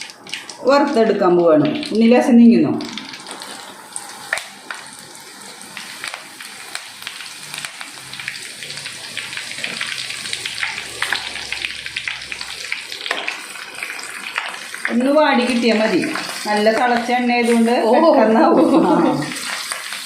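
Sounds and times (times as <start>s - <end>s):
leaves and chillies frying in oil: 0.0s - 20.0s.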